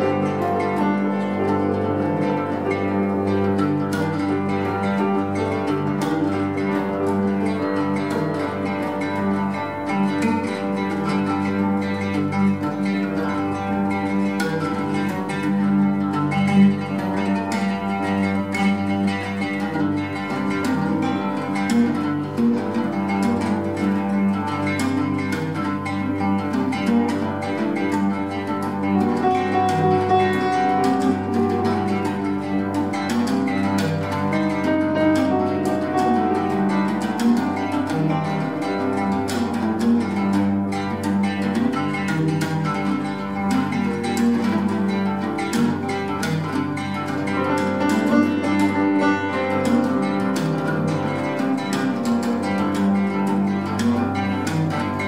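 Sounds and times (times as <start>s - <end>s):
rapid plucked oud notes: 0.0s - 55.0s.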